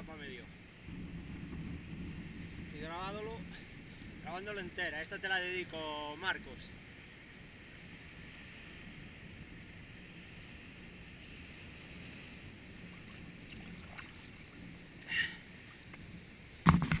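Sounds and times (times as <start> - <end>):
wind and sea hiss: 0.0 - 17.0.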